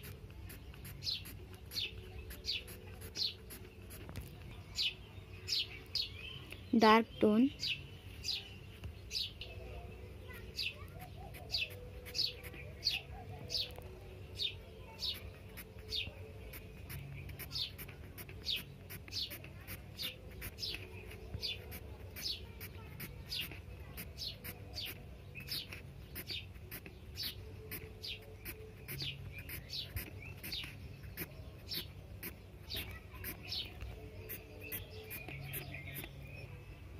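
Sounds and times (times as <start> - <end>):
small bird chirping: 0.0 - 9.5, 10.3 - 36.8.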